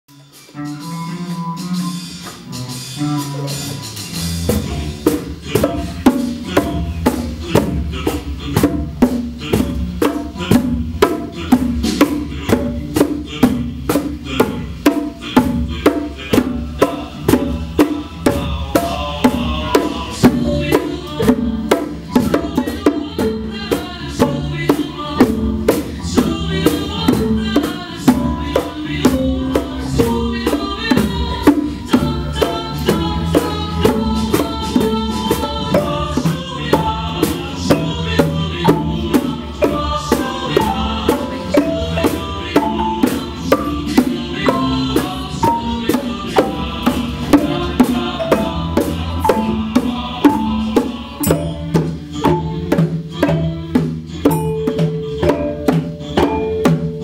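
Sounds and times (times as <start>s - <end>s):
music with steady drum beat: 0.1s - 57.0s.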